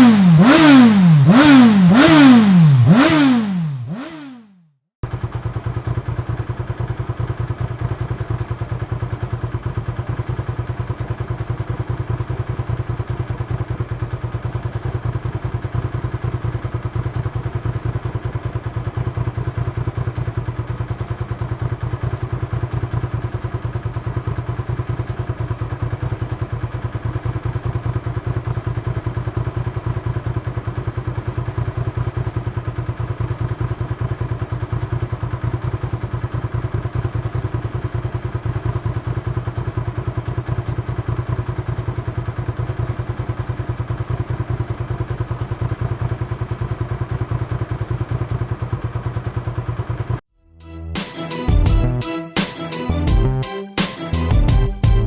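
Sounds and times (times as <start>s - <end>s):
motorcycle engine idling: 0.0s - 4.4s, 5.0s - 50.2s.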